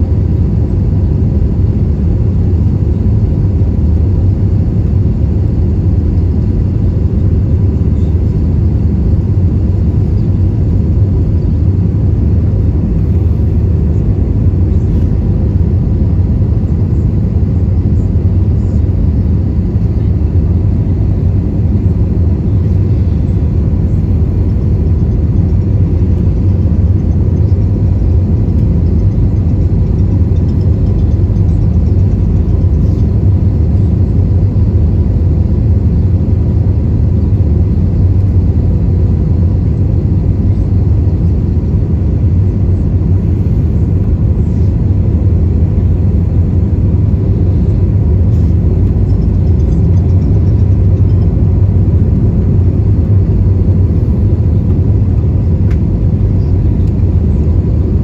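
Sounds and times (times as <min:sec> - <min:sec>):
faint steady whine: 0:00.0 - 0:58.0
low rumble of airflow and engines: 0:00.0 - 0:58.0.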